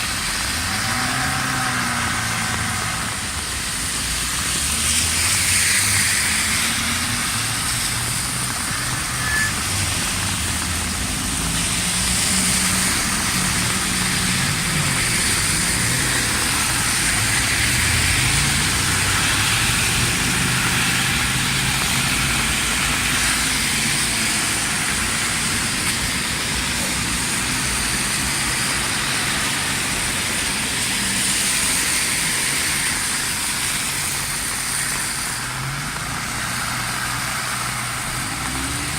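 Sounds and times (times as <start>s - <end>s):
heavy rain downpour: 0.0s - 38.9s
vehicle engines in traffic: 0.0s - 38.9s.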